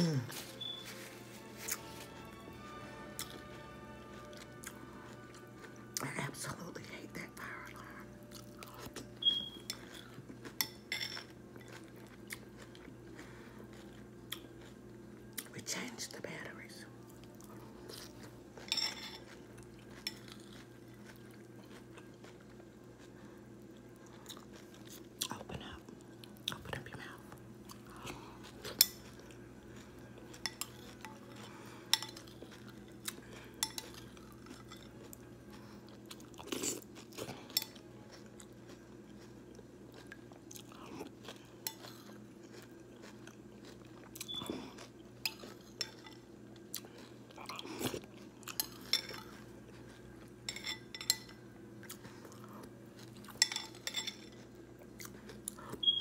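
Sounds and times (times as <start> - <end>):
chewing and crunching cereal: 0.0 - 56.0.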